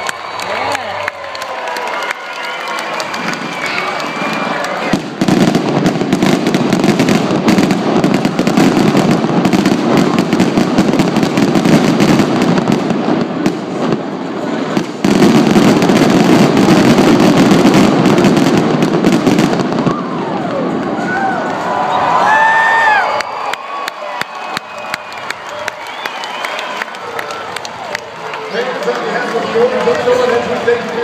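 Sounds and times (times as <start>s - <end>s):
fireworks bangs and crackles: 2.3s - 21.8s, 24.2s - 31.0s.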